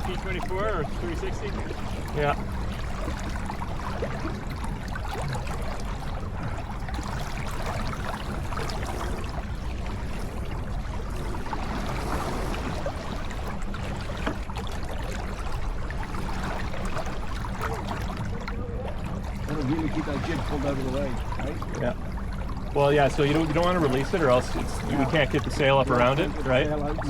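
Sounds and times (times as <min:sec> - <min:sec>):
steady low rumble: 0:00.0 - 0:27.0
water splashing along hull: 0:00.0 - 0:27.0.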